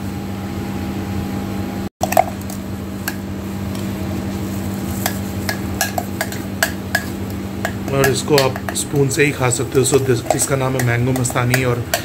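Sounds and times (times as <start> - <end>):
appliance machine hum: 0.0 - 12.0.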